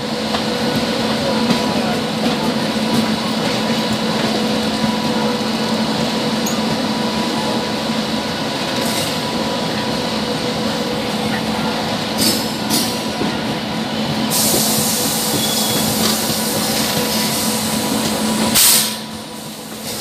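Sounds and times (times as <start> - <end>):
train coaches rumbling past: 0.0 - 20.0.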